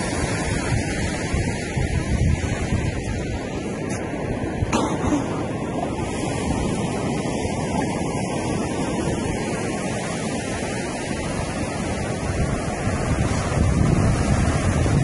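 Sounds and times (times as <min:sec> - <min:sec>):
surf washing on beach: 0:00.0 - 0:15.0
wind on microphone: 0:00.0 - 0:15.0.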